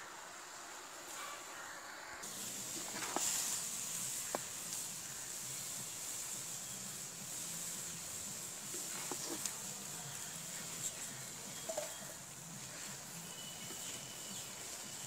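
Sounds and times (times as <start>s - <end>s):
spinach sizzling in a wok: 0.0s - 15.0s.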